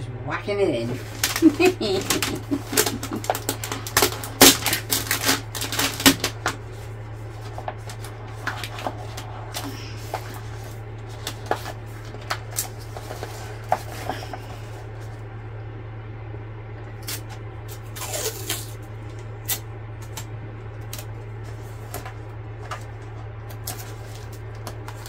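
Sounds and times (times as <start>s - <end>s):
steady low hum: 0.0s - 25.0s
plastic film crinkling: 1.0s - 15.2s, 17.0s - 25.0s.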